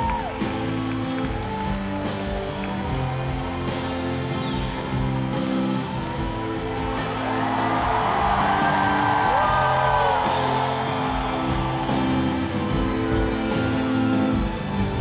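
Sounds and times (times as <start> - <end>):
crowd cheering and whooping: 0.0 - 15.0
live concert music: 0.0 - 15.0.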